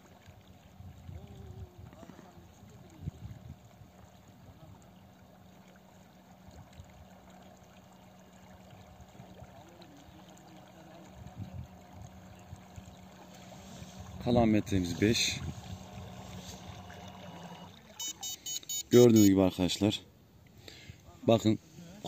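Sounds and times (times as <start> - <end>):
low uneven rumble: 0.0 - 18.0
light water sounds: 0.0 - 22.0.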